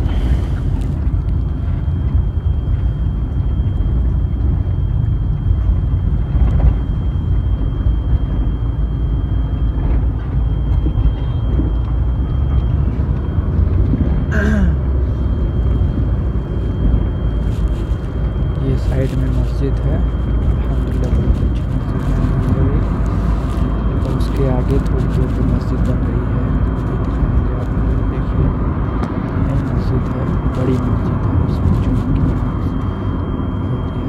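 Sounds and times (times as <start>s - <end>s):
car road and engine noise: 0.0s - 34.0s
faint high whine: 0.0s - 34.0s.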